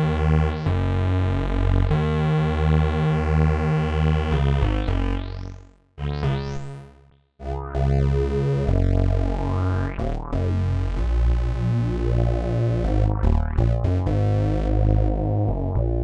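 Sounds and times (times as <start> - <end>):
synthesizer bass line: 0.0 - 16.0
synthesizer notes with rising sweep: 0.0 - 16.0.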